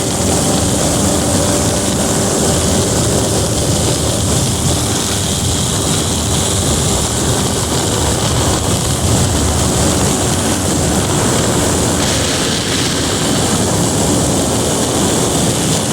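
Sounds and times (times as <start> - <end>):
propeller aircraft in flight: 0.0 - 15.9.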